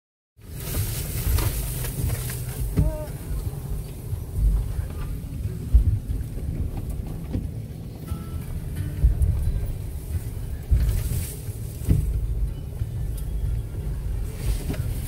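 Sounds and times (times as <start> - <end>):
vehicle noise: 0.4 - 15.0
wind buffeting microphone: 1.0 - 15.0.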